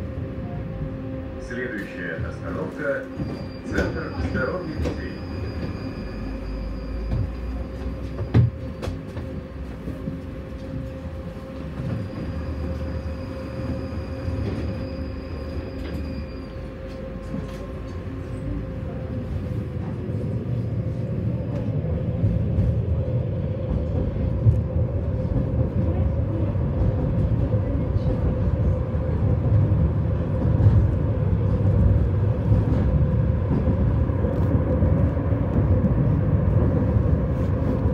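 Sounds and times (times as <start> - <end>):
tram wheels rumbling on track: 0.0 - 37.9.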